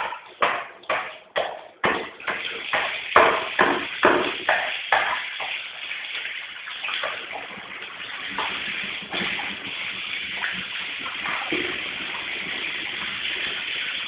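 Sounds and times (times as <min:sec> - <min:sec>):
shower water splashing: 0:00.0 - 0:14.0.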